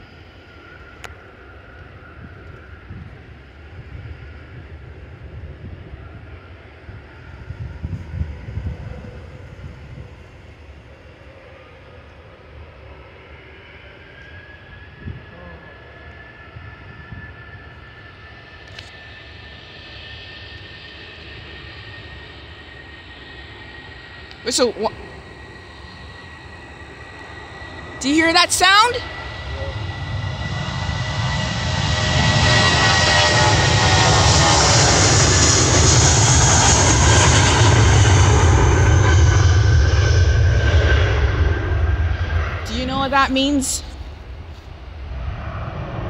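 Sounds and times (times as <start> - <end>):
distant jet engines rumbling: 0.0 - 46.0.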